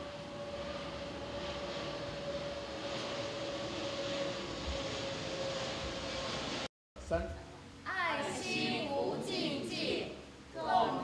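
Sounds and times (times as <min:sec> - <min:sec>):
mechanical drone with high whine: 0:00.0 - 0:11.0.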